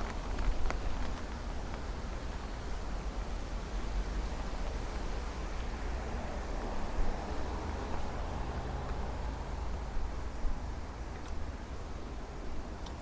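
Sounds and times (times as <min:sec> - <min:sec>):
wind gusting over microphone: 0:00.0 - 0:13.0.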